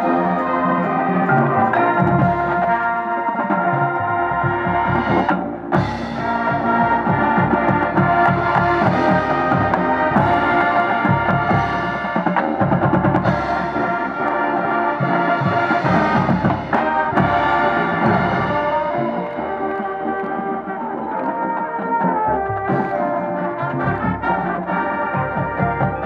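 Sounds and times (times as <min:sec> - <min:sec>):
marching drums and percussion: 0:00.0 - 0:26.0
wind instruments holding chords: 0:00.0 - 0:26.0.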